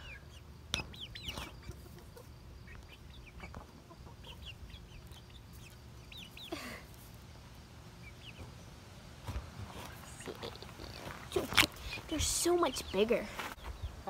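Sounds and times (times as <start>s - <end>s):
chickens chirping and clucking: 0.0s - 14.0s.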